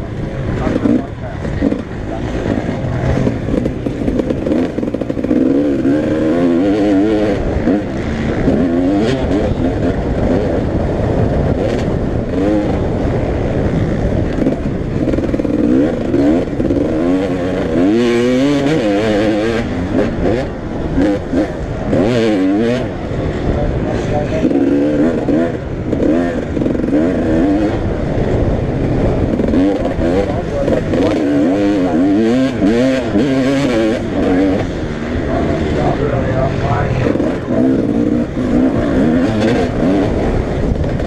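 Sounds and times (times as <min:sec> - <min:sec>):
motocross bikes revving: 0:00.0 - 0:41.0.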